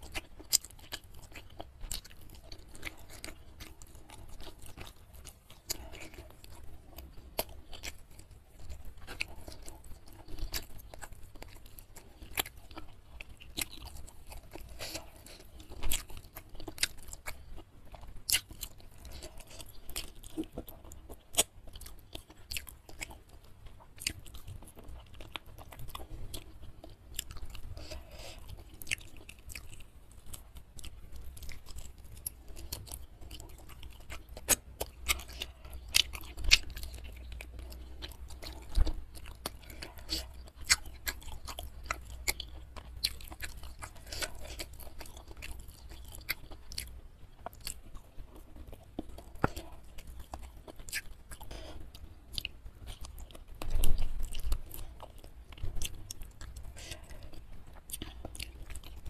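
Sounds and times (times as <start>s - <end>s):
chewing and biting chicken: 0.0s - 59.0s.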